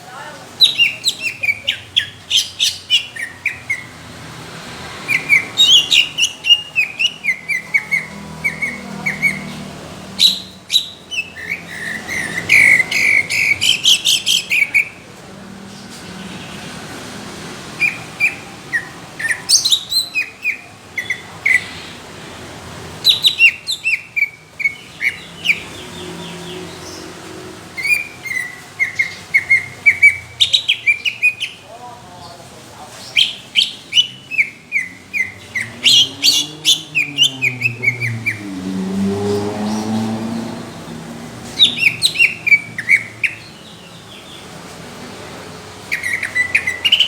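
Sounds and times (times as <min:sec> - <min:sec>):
bird singing rapid whistled notes: 0:00.6 - 0:04.2, 0:05.0 - 0:15.0, 0:17.8 - 0:22.0, 0:23.0 - 0:27.1, 0:27.8 - 0:31.7, 0:33.1 - 0:44.5, 0:45.8 - 0:47.0.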